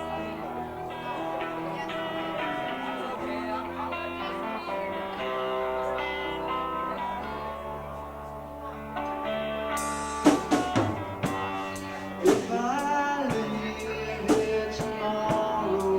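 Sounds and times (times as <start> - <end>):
held guitar chords: 0.0 - 15.9
picked guitar notes: 0.0 - 15.9
steady bass: 0.0 - 15.9.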